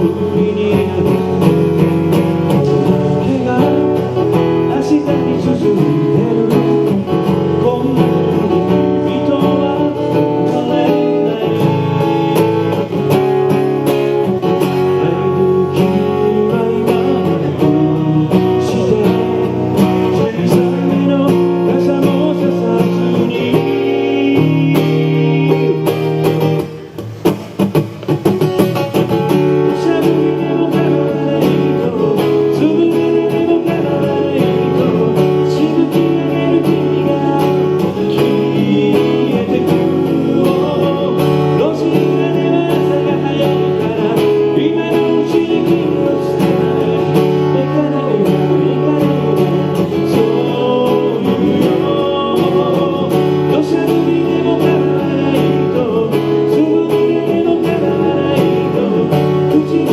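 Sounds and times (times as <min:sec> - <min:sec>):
person singing: 0:00.0 - 0:27.0, 0:28.9 - 0:59.9
acoustic guitar strumming: 0:00.0 - 0:59.9.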